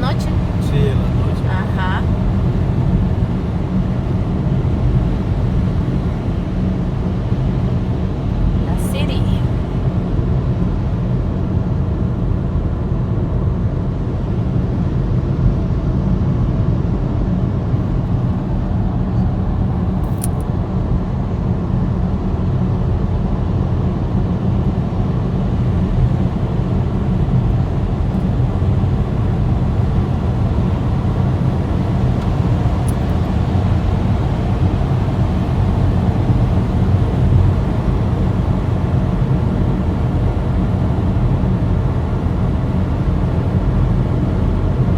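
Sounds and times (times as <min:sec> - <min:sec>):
car engine and tyre rumble: 0:00.0 - 0:44.9.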